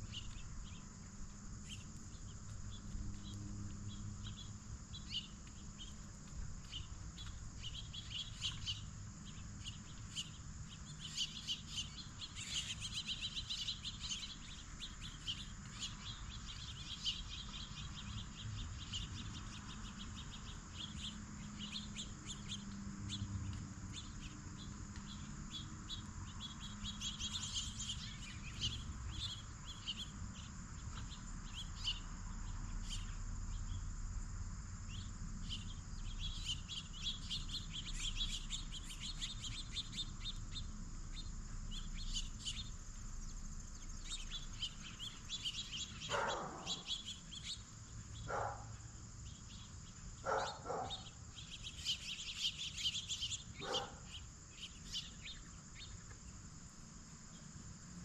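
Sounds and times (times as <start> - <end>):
birds chirping: 0.0 - 34.0, 34.8 - 58.0
crickets and insects chorus: 0.0 - 58.0.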